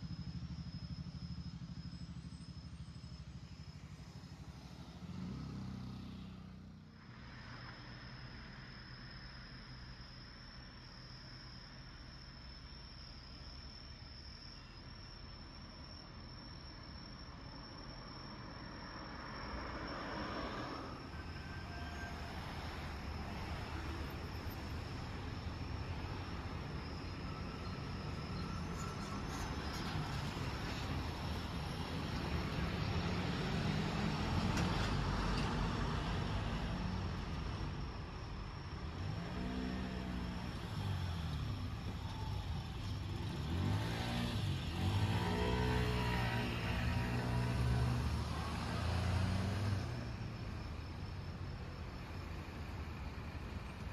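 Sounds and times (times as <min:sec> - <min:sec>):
approaching vehicle: 0:00.0 - 0:10.4, 0:18.3 - 0:53.9
crickets trilling: 0:00.0 - 0:53.9
low traffic hum: 0:00.0 - 0:53.9.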